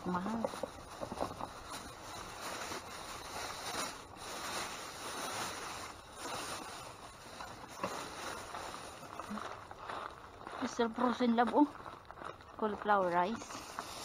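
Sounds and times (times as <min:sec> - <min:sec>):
rustling of packages and bags: 0:00.0 - 0:14.0.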